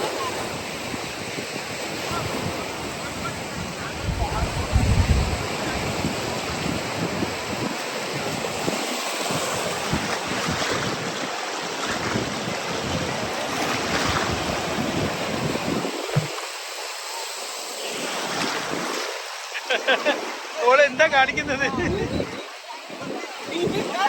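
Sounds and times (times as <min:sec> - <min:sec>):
wind buffeting microphone: 0:00.0 - 0:16.4, 0:20.8 - 0:24.0
sea waves washing up beach: 0:00.0 - 0:24.0.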